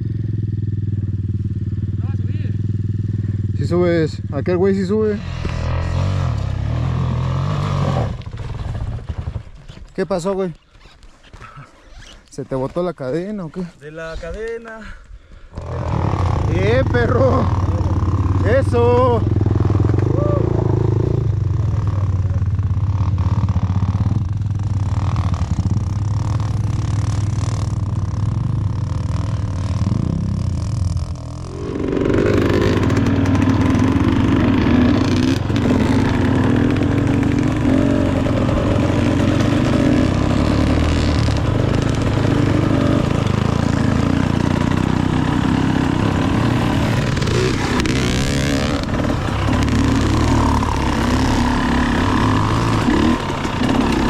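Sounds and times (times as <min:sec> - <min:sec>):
dirt bike engine running: 0:00.0 - 0:10.3, 0:15.4 - 0:54.0.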